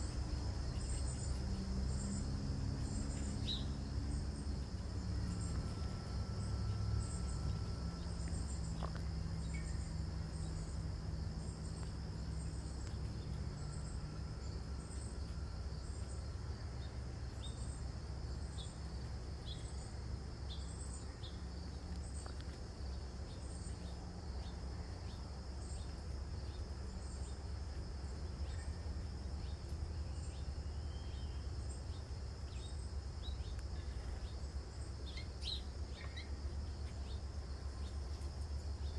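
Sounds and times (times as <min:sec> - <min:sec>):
insect chirp: 0:00.0 - 0:38.9
insect trill: 0:00.0 - 0:38.9.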